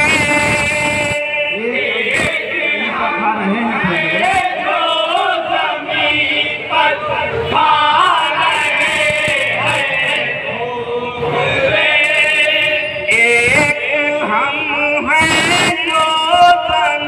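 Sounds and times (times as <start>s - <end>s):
men chanting in chorus: 0.0s - 17.0s.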